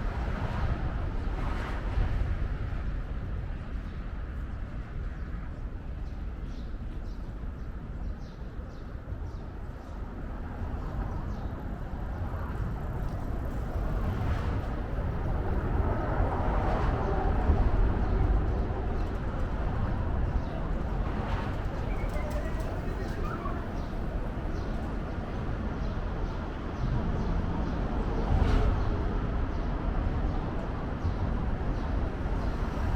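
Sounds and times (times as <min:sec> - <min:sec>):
distant traffic rumble: 0:00.0 - 0:32.9
wind: 0:00.0 - 0:32.9.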